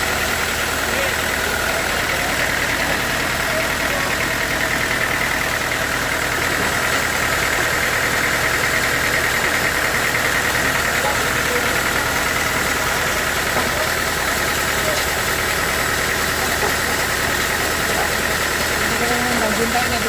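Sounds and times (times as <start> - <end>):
sawmill machinery drone: 0.0 - 20.0.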